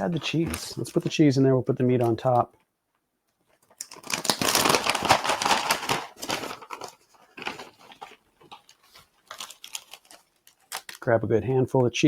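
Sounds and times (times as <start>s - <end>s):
plastic bags crinkling: 0.0s - 2.4s, 3.4s - 11.1s.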